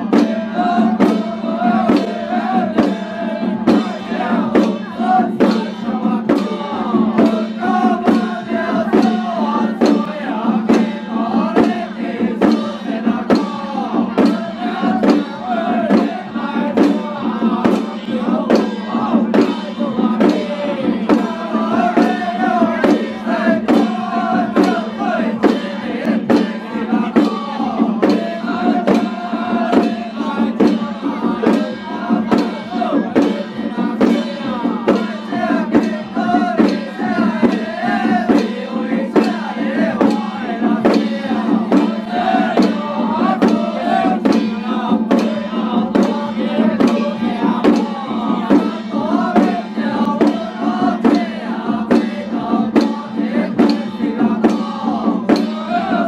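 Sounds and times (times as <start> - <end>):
frame drums beating: 0.0 - 56.0
male voices chanting together: 0.0 - 56.0.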